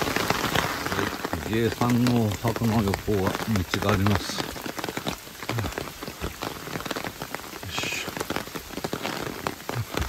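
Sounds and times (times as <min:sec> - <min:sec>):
raindrop clicks: 0:00.0 - 0:10.0
steady rain hissing: 0:00.0 - 0:10.0.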